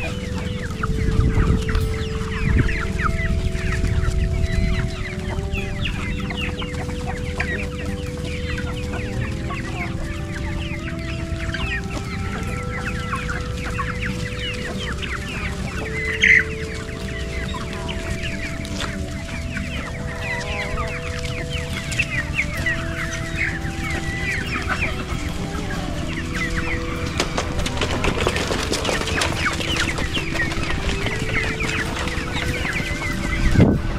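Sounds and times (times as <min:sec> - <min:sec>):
chickens clucking and peeping: 0:00.0 - 0:33.9.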